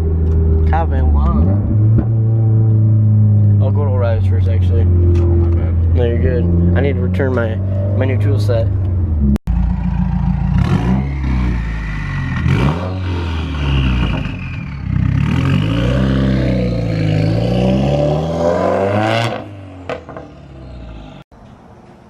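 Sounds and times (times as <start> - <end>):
car engine accelerating: 0.0 - 21.2.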